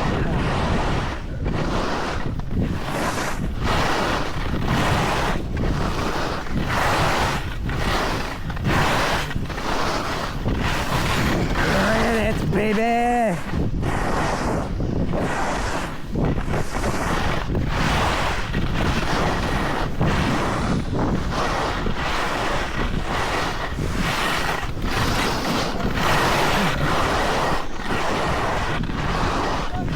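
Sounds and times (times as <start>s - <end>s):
edges scraping packed snow: 0.0s - 29.9s
wind rushing over microphone: 0.0s - 29.9s.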